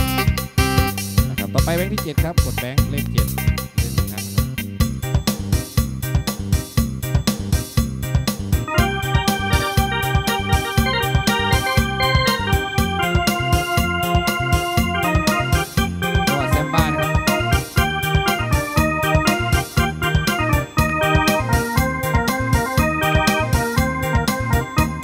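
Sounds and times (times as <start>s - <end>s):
electronic keyboard melody: 0.0s - 2.0s, 3.4s - 25.0s
drum and bass accompaniment beat: 0.0s - 25.0s.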